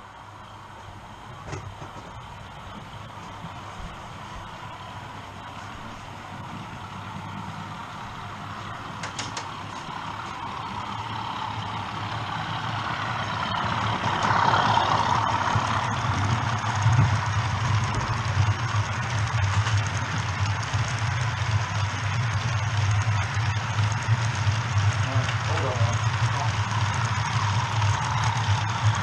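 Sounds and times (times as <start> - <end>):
model train rumbling past: 0.0 - 29.0.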